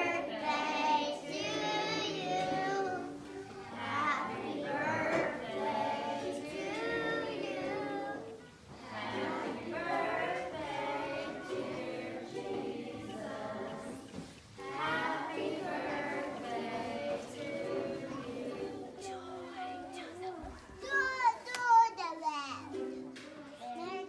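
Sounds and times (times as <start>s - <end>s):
children singing: 0.0s - 21.3s.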